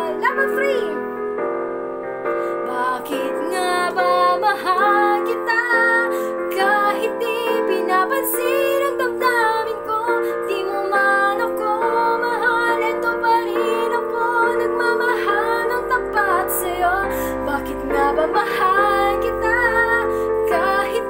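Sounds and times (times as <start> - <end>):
woman singing a love ballad: 0.0 - 1.1, 2.4 - 21.0.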